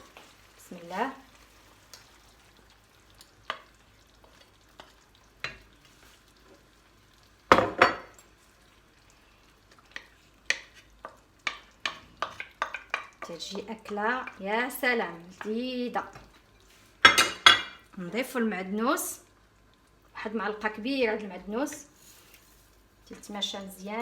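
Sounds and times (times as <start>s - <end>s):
faint sizzle: 0.0s - 24.0s.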